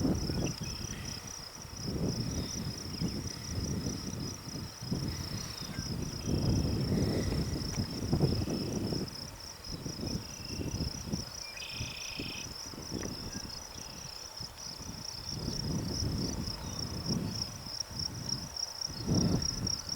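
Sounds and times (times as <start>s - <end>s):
insects trilling: 0.0s - 19.9s
wind buffeting microphone: 0.0s - 19.9s.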